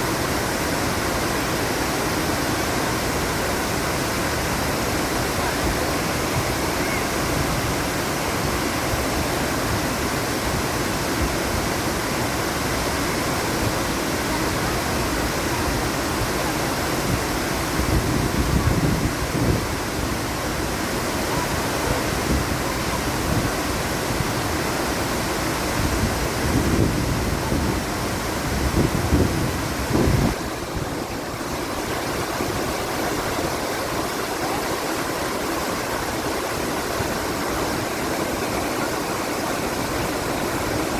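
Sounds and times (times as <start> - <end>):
waterfall rushing: 0.0 - 40.9
wind on microphone: 0.0 - 40.9.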